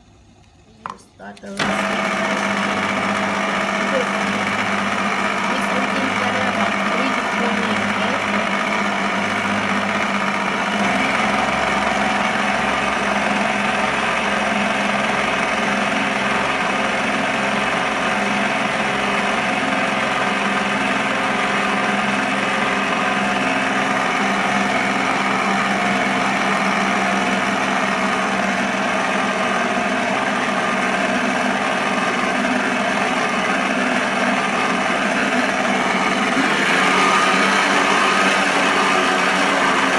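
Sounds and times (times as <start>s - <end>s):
stand mixer humming: 1.6s - 39.9s.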